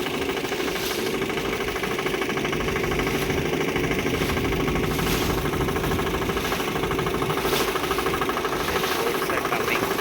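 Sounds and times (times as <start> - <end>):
motorboat engine pulsing: 0.0 - 10.0.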